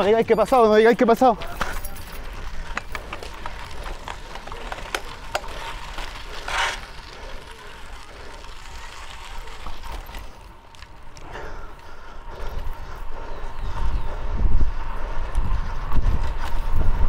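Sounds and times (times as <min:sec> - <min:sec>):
bicycle clicks and rattles: 0:00.0 - 0:17.0
wind and road rumble: 0:00.0 - 0:17.0.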